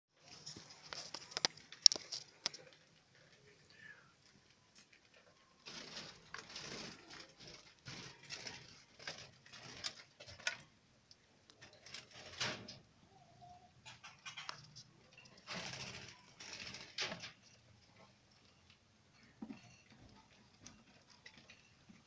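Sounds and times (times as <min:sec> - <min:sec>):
faint rustling and scraping: 0:00.2 - 0:22.0.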